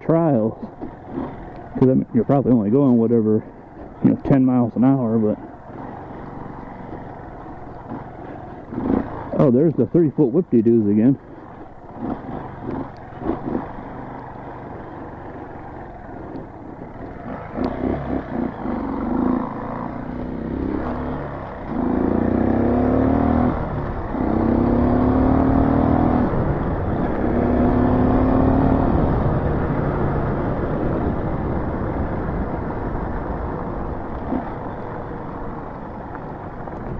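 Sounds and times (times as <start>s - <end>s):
dirt bike engine revving: 0.2s - 36.0s.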